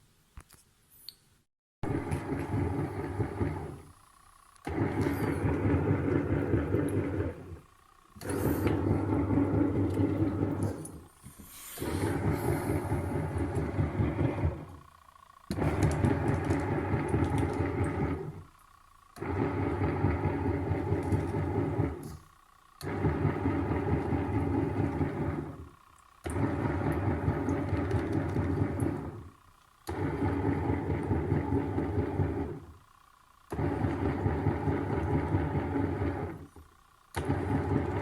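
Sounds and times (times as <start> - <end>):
washing machine churning water: 1.8 - 4.0, 4.6 - 18.6, 19.2 - 32.9, 33.5 - 38.0.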